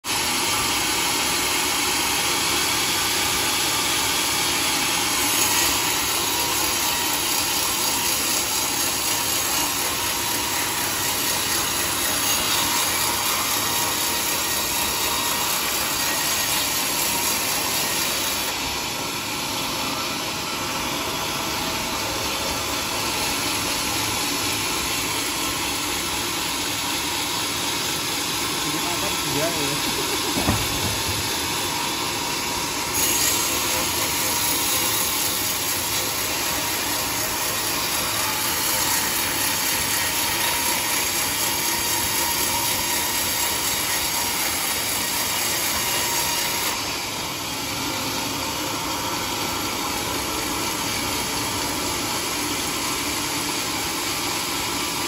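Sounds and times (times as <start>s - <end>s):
band saw cutting a log: 0.0s - 55.0s.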